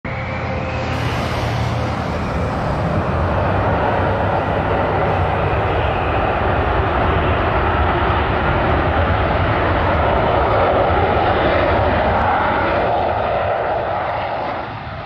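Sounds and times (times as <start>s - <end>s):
jet engine rushing: 0.1s - 15.0s.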